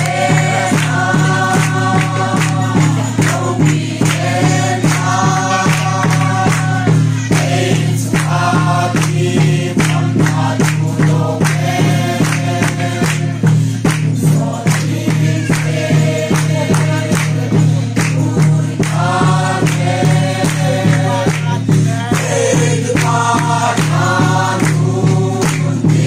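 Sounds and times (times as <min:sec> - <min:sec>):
group singing a hymn: 0:00.0 - 0:26.0
hand-clapping beat: 0:00.0 - 0:26.0.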